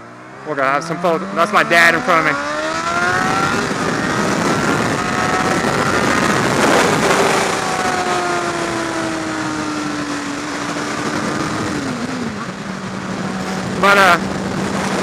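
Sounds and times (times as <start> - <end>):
motorcycle engine at speed: 0.0 - 15.0
wind and road rush: 0.0 - 15.0.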